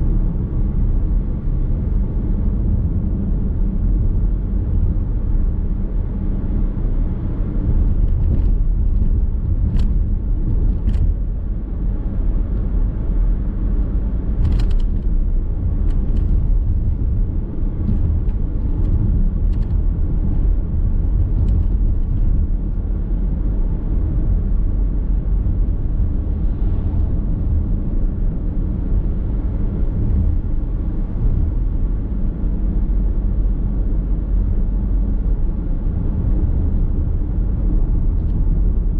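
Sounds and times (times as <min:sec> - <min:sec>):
tyres and engine rumble: 0:00.0 - 0:38.9.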